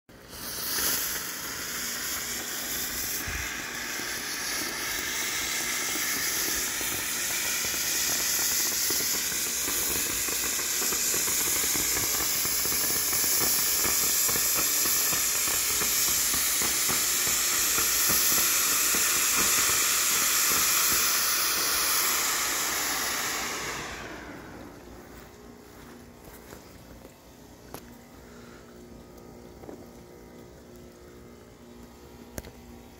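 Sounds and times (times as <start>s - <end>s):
firework fountain hissing sparks: 0.1s - 32.9s.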